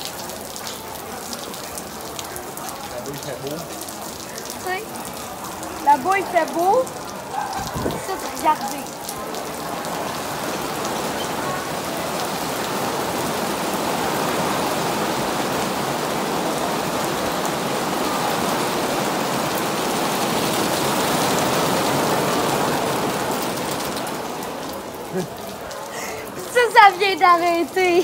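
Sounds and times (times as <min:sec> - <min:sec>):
rain on tiled terrace: 0:00.0 - 0:28.0.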